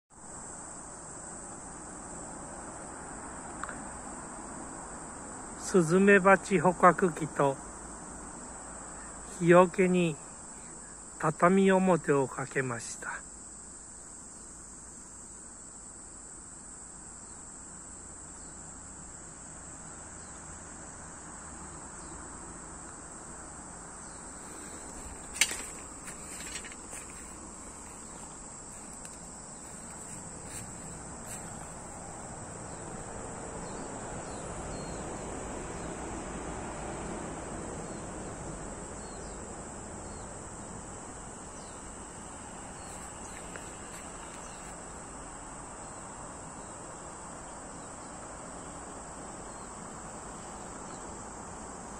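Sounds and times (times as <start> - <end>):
insects chirring: 0.1 - 51.9.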